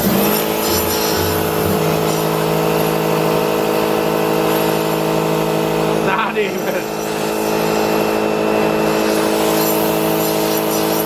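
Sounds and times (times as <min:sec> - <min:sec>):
motor and pump humming: 0:00.0 - 0:11.0
pressure washer jet hissing: 0:00.0 - 0:11.0.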